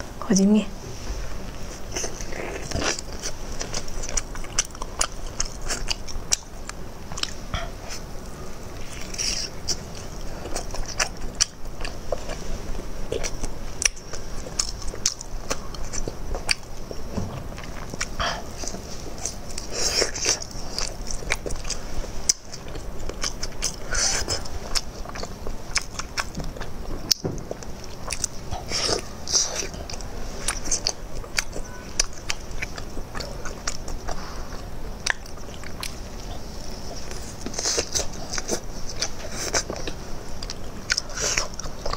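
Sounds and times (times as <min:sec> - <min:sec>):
wet chewing and mouth clicks: 0:01.7 - 0:41.9.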